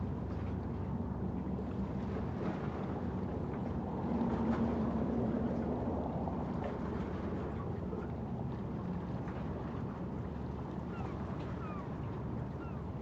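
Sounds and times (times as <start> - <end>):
low rumble of distant engines: 0.0 - 13.0.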